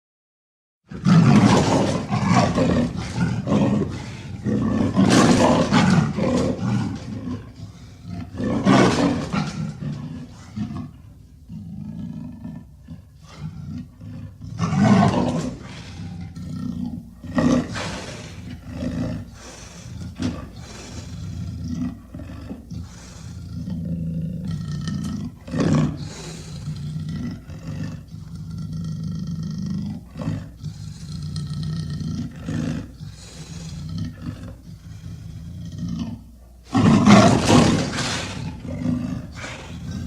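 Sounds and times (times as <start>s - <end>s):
leopard roaring calls: 0.9s - 40.0s.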